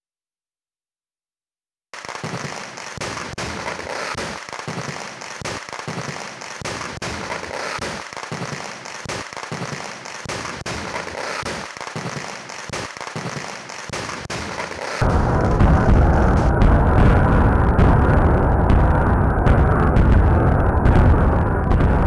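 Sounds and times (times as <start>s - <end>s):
fireworks bangs and crackling: 2.0s - 22.0s.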